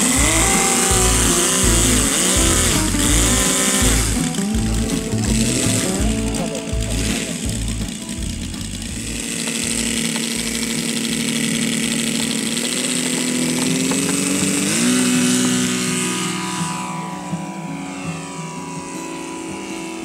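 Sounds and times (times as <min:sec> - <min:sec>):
model aeroplane engine and propeller: 0:00.0 - 0:20.0.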